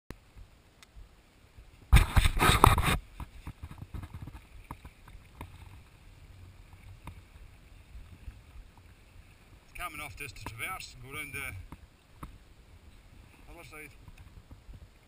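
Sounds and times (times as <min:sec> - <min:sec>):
paddle splashing water: 0:00.2 - 0:15.0.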